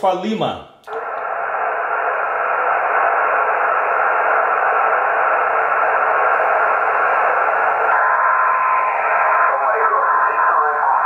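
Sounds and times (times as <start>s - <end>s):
radio static hiss: 0.9s - 11.0s.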